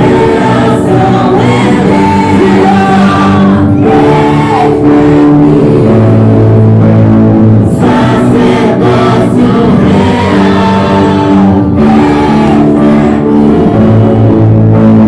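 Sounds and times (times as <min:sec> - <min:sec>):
sustained instrumental accompaniment: 0:00.0 - 0:15.0
voices singing together: 0:00.0 - 0:15.0.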